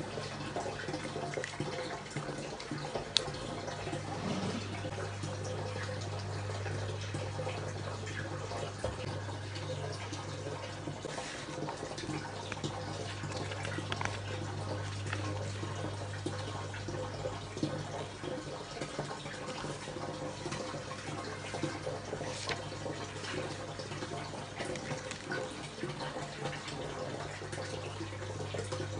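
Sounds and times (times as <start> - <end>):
tap water running into sink: 0.0 - 28.9.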